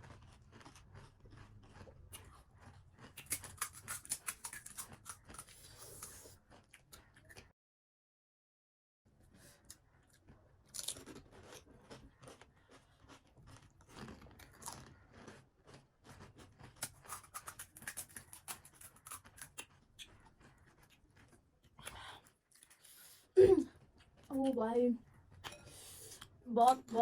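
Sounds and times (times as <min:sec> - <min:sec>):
crisp shells crunching while chewing: 0:00.0 - 0:07.5, 0:09.7 - 0:24.4.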